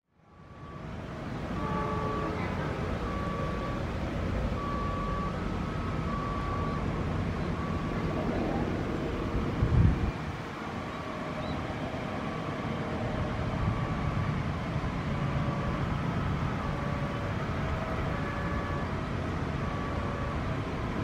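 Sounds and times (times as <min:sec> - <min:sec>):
diesel locomotive and rail rumble: 0:00.1 - 0:21.0.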